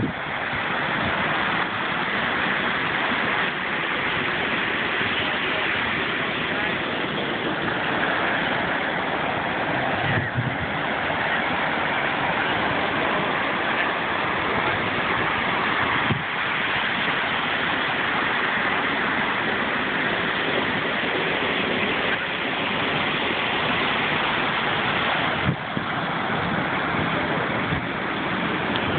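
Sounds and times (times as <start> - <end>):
ocean surf breaking on beach: 0.0 - 28.9.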